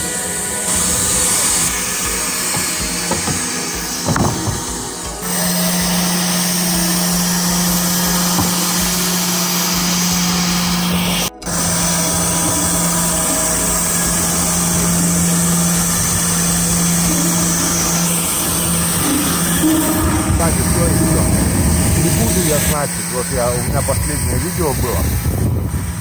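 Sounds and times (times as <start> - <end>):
sawmill machine hum: 0.0 - 26.0.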